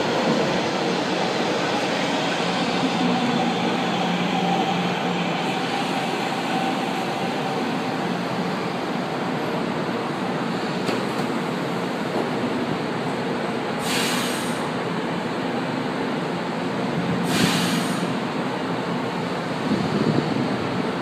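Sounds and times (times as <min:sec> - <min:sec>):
train rumbling into station: 0:00.0 - 0:21.0.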